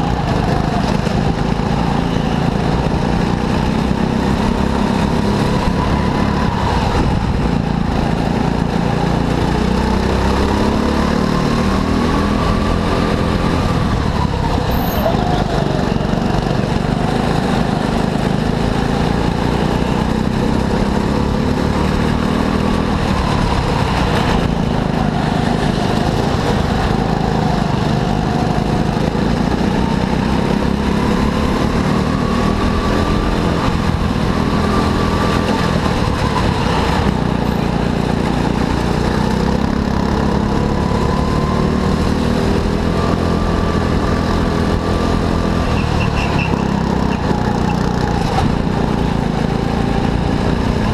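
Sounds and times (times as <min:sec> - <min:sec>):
go-kart engine running: 0:00.0 - 0:50.9.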